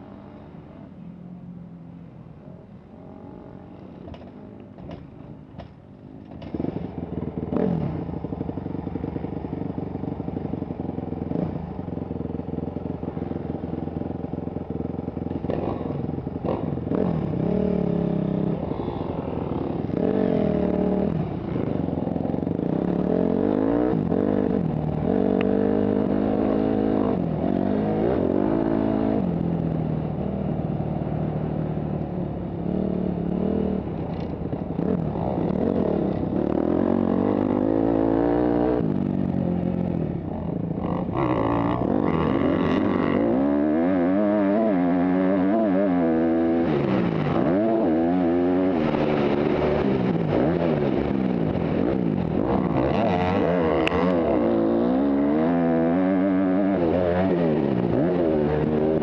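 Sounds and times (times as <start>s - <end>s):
motocross bike engine: 0.0s - 59.0s.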